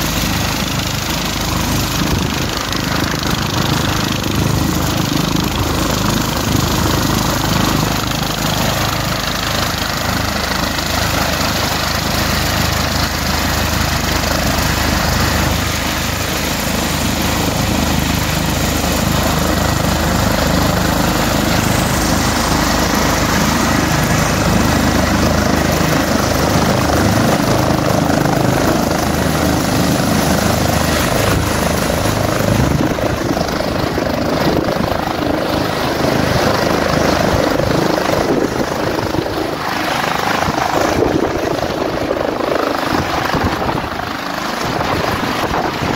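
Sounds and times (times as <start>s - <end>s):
helicopter turbines and rotor: 0.0s - 45.9s.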